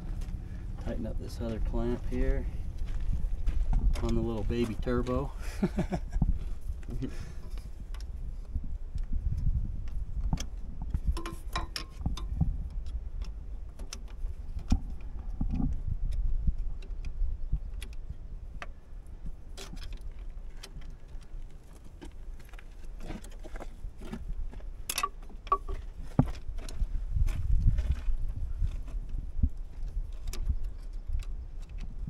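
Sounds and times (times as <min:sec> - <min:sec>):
low steady rumble: 0:00.0 - 0:32.0.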